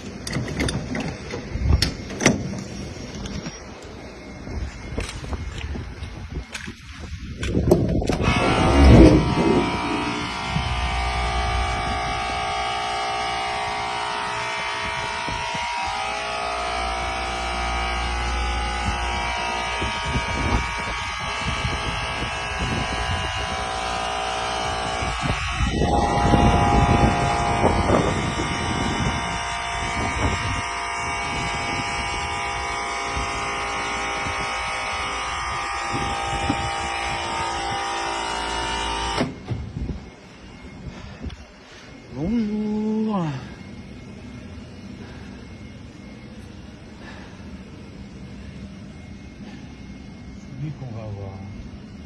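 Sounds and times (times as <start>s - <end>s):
machinery rumbling and whining: 0.0s - 52.0s.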